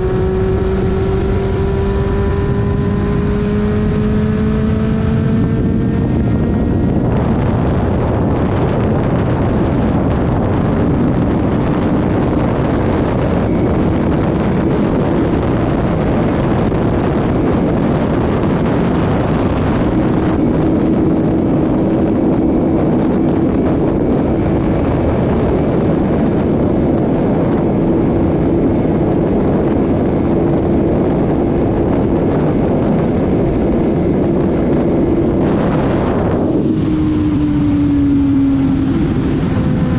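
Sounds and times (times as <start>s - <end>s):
motorcycle engine droning: 0.0s - 39.9s
wind rushing on microphone: 0.0s - 39.9s.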